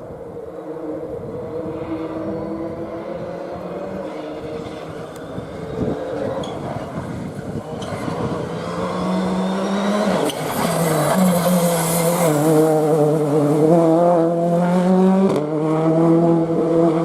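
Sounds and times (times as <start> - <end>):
rally car engine at high revs: 0.6 - 17.0.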